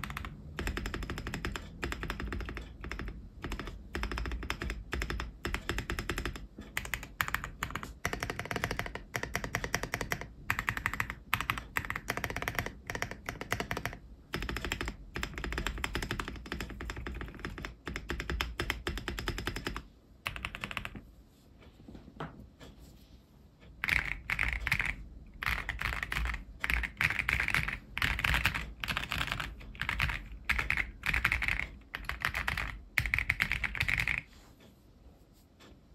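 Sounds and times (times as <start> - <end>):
mechanical keyboard typing: 0.0 - 21.0, 23.7 - 34.3.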